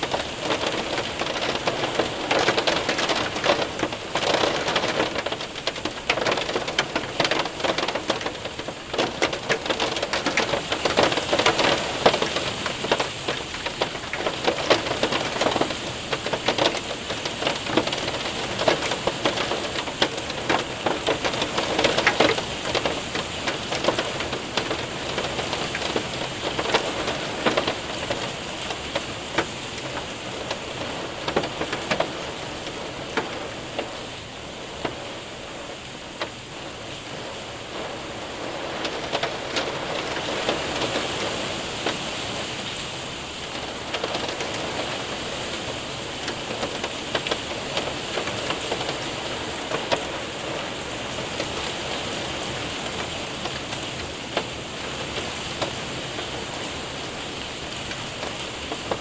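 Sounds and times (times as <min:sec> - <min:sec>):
hailstones ticking: 0:00.0 - 0:59.0
rain pattering on window and roof: 0:00.0 - 0:59.0.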